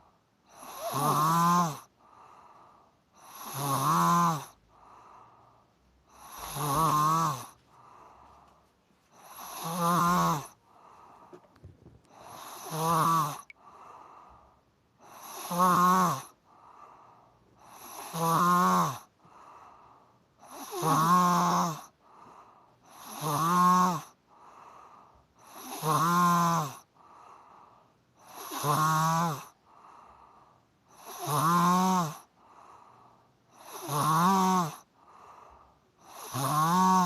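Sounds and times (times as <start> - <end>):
person snoring: 0.0 - 8.2, 9.1 - 11.4, 12.1 - 14.4, 15.0 - 37.0.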